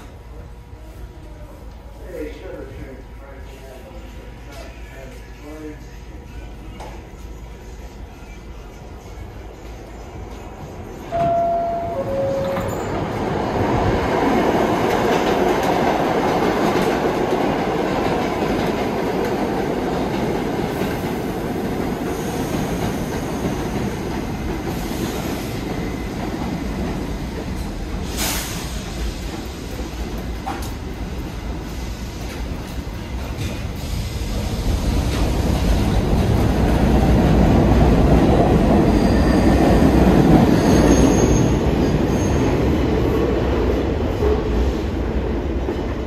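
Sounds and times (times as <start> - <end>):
subway train wheel and rail noise: 0.0 - 46.0.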